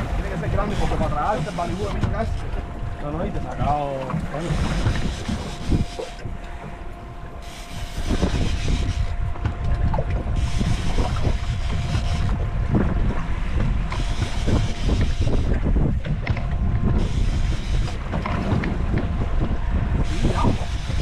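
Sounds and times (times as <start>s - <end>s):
faint hum: 0.0s - 21.0s
wind buffeting microphone: 0.0s - 21.0s.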